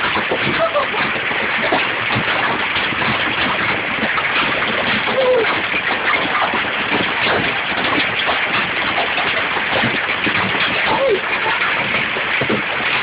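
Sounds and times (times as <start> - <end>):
hailstones clattering: 0.0 - 13.0.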